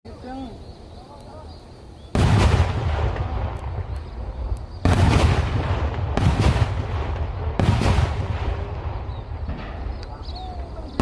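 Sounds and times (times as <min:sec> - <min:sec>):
firework blasts with rumbling echo: 0:02.1 - 0:11.0.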